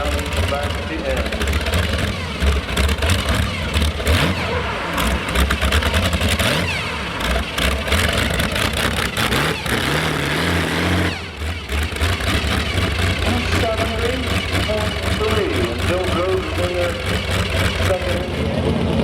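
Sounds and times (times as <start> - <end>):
tractor engine revving with crackling exhaust: 0.0 - 19.0.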